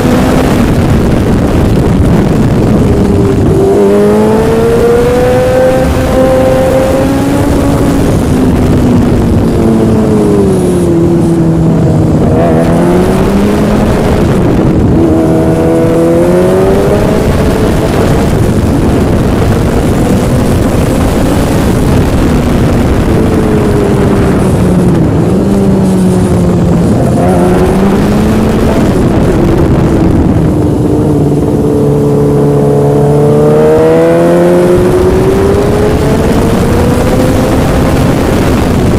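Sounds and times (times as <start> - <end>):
heavy rushing noise: 0.0 - 38.9
motorcycle engine revving: 0.0 - 38.9.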